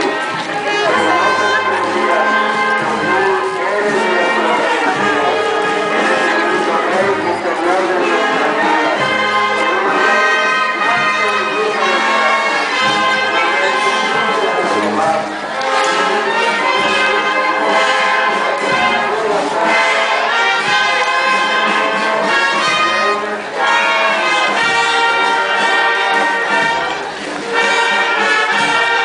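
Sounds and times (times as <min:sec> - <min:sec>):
procession band playing slow melody: 0:00.0 - 0:29.0.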